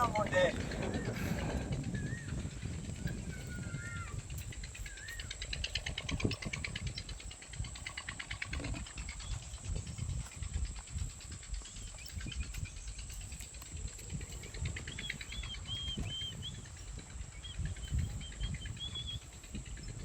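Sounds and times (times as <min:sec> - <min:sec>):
bird chirping: 0:00.0 - 0:20.0
insects trilling: 0:00.0 - 0:20.0
low rumble: 0:00.0 - 0:20.0.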